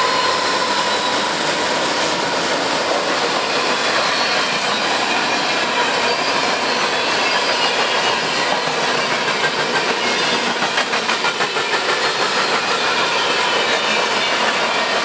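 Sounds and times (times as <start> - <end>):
steel wheels rumbling on rail: 0.0 - 15.0.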